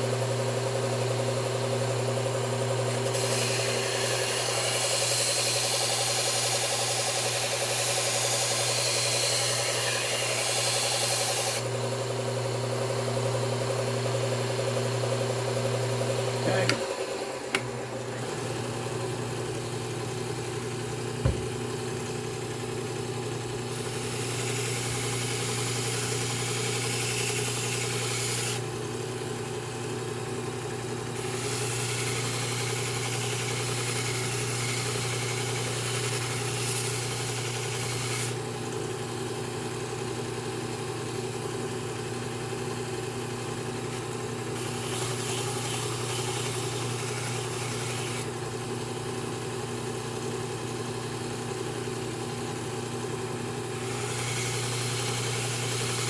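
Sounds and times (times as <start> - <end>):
sharpening machine motor hum: 0.0 - 28.9, 31.1 - 52.5, 53.2 - 56.0.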